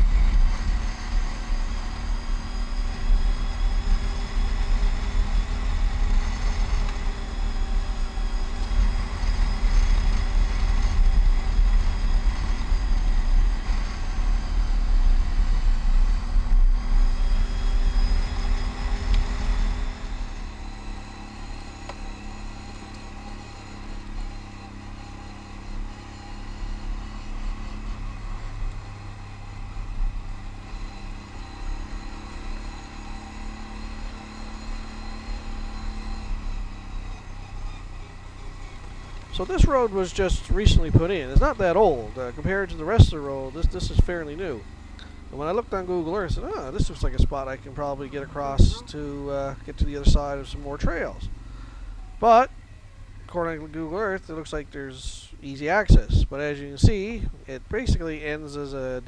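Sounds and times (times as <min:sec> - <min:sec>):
atv engine on gravel road: 0:00.0 - 0:59.0.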